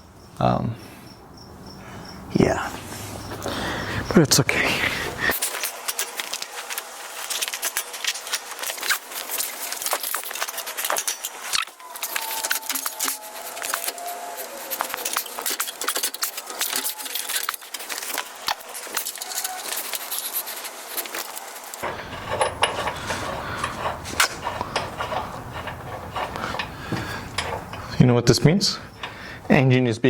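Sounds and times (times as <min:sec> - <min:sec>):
tools clinking and rattling: 0:05.1 - 0:29.5.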